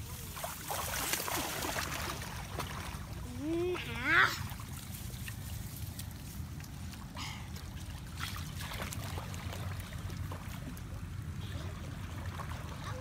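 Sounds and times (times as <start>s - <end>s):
water sloshing and trickling: 0.0s - 13.0s
water splashes: 0.0s - 13.0s.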